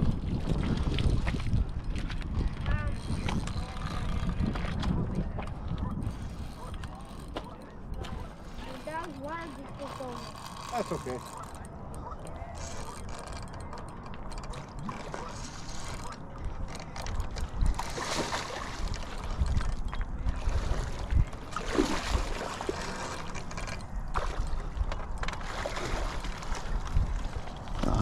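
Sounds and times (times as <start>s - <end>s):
river water splashing at bank: 0.0s - 28.0s.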